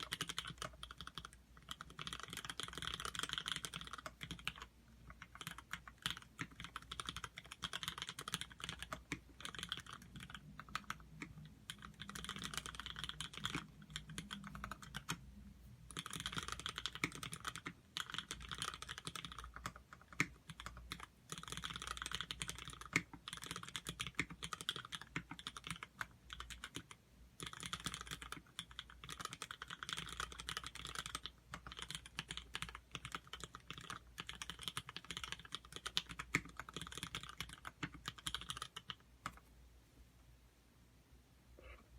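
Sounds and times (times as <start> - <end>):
mechanical keyboard typing: 0.0 - 39.5.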